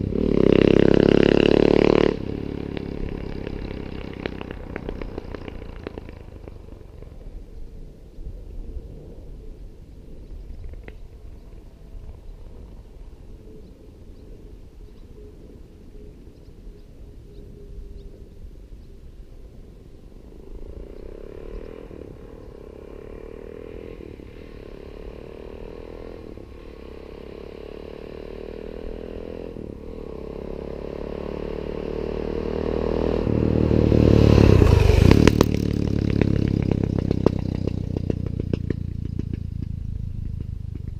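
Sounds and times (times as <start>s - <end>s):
motorcycle accelerating and shifting gears: 0.0s - 40.9s.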